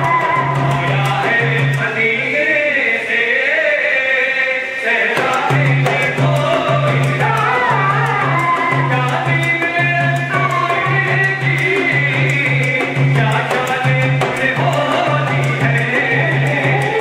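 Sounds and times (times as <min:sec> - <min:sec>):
steady rhythmic beat: 0:00.0 - 0:02.2, 0:05.1 - 0:17.0
person singing devotional song: 0:00.0 - 0:17.0.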